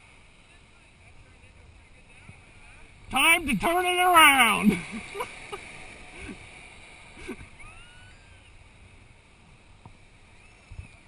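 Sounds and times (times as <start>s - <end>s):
surf washing on beach: 0.0s - 11.0s
wind hiss: 0.0s - 11.0s
faint distant calls: 2.0s - 11.0s.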